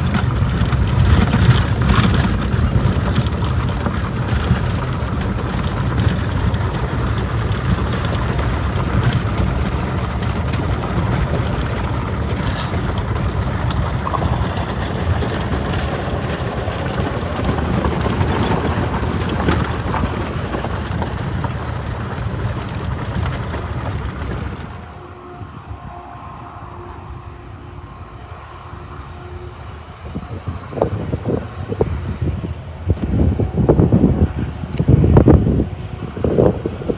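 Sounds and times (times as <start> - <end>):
freight train rumbling by: 0.0 - 36.9
wind buffeting microphone: 0.0 - 36.9.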